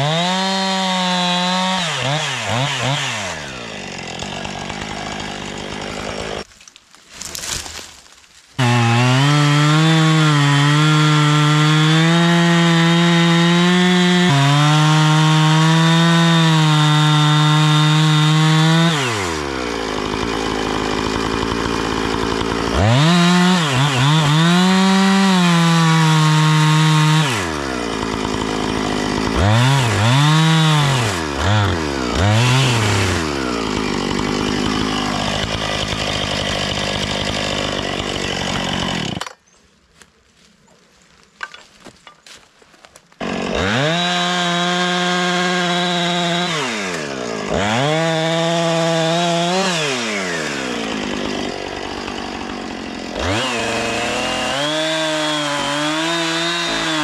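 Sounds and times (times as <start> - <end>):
chainsaw revving and idling: 0.0 - 7.9, 8.6 - 39.5, 41.4 - 57.0.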